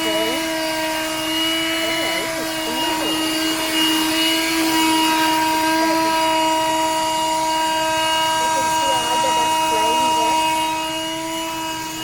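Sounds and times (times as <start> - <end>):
handheld vacuum cleaner running: 0.0 - 12.0.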